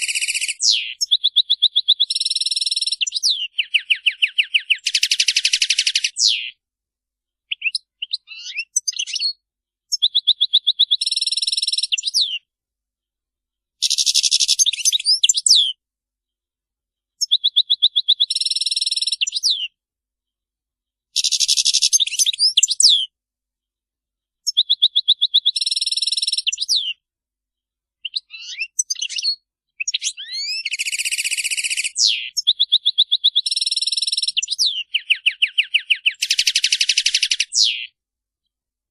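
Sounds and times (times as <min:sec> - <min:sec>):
goldfinch song: 0:00.0 - 0:06.6, 0:07.4 - 0:12.5, 0:13.7 - 0:15.8, 0:17.0 - 0:19.8, 0:21.1 - 0:23.2, 0:24.3 - 0:27.0, 0:27.6 - 0:38.6.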